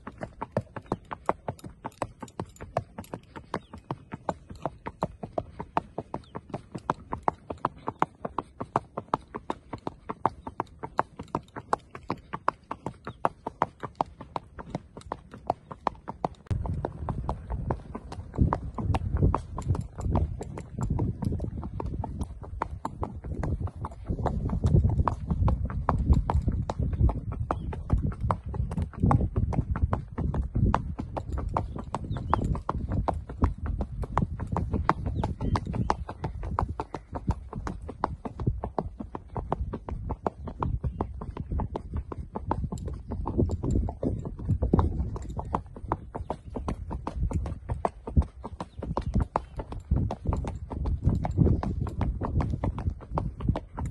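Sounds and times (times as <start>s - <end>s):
horse hoofbeats on dirt: 0.0s - 53.9s.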